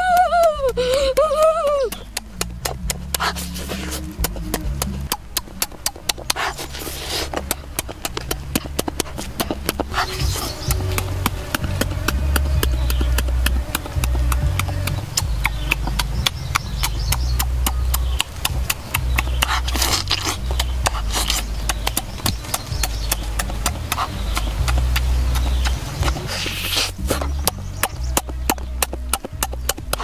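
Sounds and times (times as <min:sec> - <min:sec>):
low bassline: 0:00.0 - 0:30.0
ticking beat: 0:00.0 - 0:30.0.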